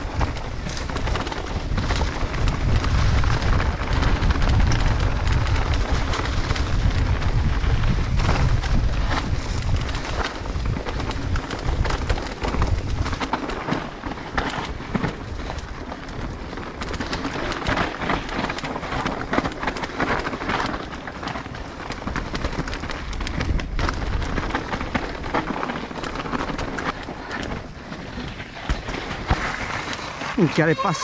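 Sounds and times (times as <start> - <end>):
bike rattling and knocking: 0.0 - 31.0
bike tyres crunching over leaves: 0.0 - 31.0.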